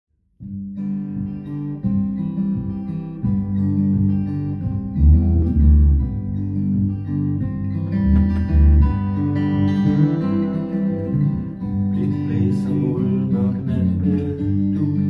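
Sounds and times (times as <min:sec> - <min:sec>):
acoustic guitar tune: 0:00.3 - 0:15.0
deep bass notes: 0:00.4 - 0:15.0.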